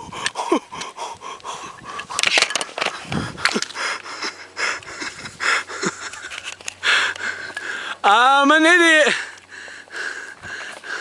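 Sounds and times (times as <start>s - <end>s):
person panting: 0.0s - 8.1s, 9.0s - 11.0s.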